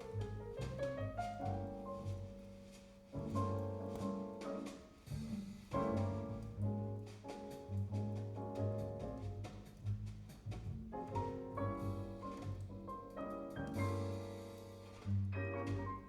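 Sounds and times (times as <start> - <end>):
double bass line: 0.0 - 16.0
piano chords: 0.0 - 16.0.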